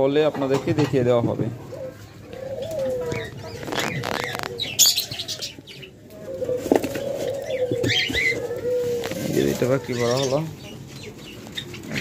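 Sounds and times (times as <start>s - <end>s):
dove cooing: 1.4s - 12.0s.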